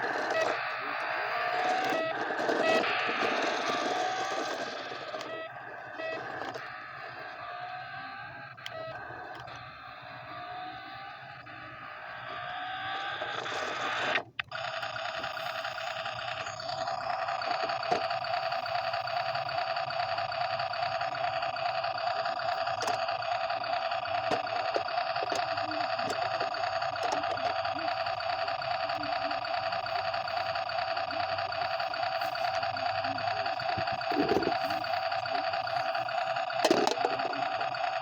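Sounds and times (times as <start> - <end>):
toy electronic engine sound: 0.0 - 38.0.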